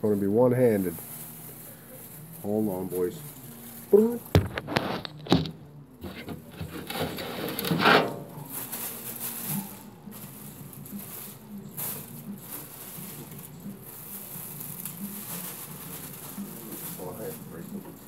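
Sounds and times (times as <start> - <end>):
debris rustling and scraping: 0.7 - 18.0.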